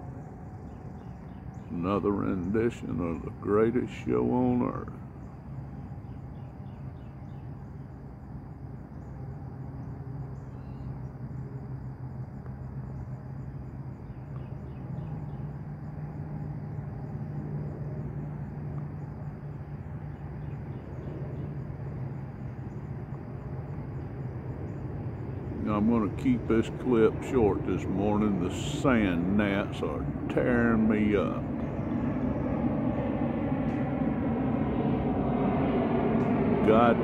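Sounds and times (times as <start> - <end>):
insects chirring: 0.0 - 37.0
steady low hum: 0.0 - 37.0.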